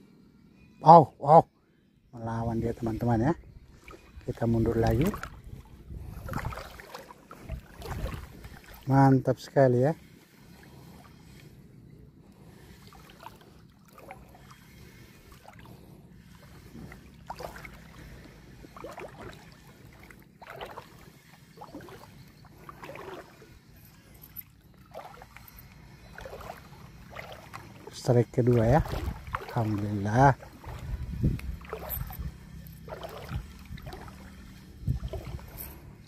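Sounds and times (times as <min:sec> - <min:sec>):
small waves lapping and splashing: 0:02.2 - 0:36.0.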